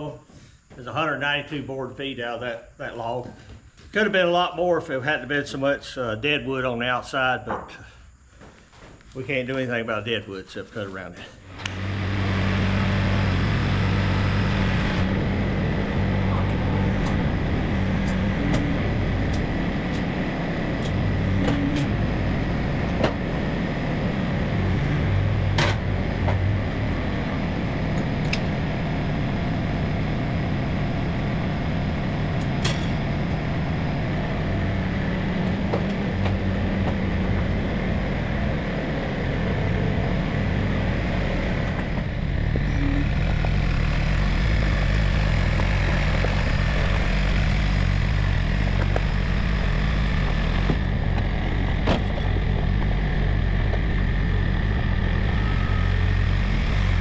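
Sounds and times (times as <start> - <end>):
motor engine running: 11.0 - 57.0.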